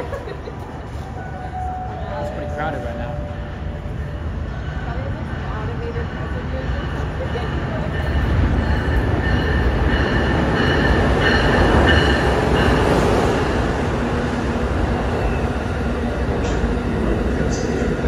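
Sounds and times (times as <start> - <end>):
train wheels rushing on rails: 0.0 - 18.0.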